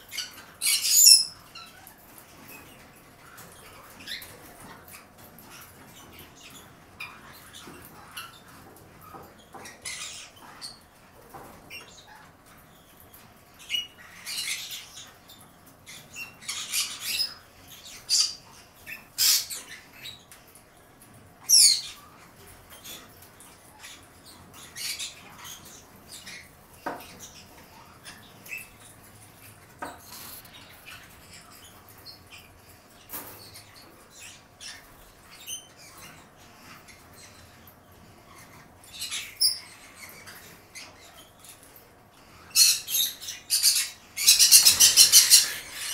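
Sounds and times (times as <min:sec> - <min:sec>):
parrots squeaking and chirping: 0:00.0 - 0:45.9.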